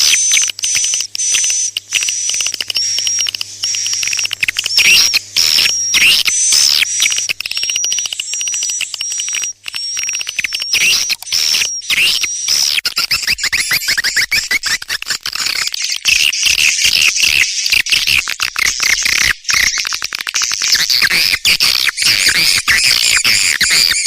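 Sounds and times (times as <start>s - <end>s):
recorded swiftlet chirps: 0.0s - 24.0s.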